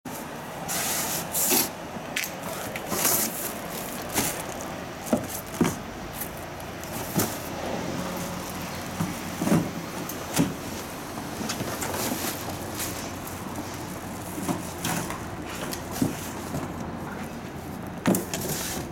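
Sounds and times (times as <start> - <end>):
cardboard and plastic rustling: 0.1 - 18.9
street traffic hum: 0.1 - 18.9.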